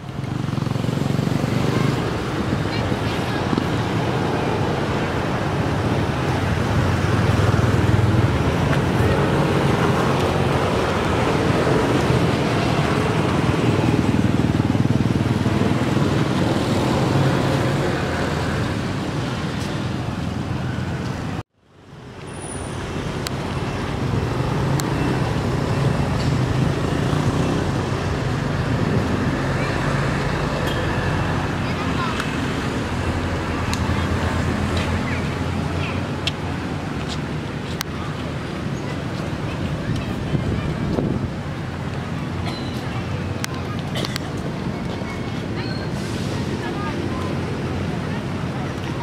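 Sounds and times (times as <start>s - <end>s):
road traffic: 0.0s - 49.0s.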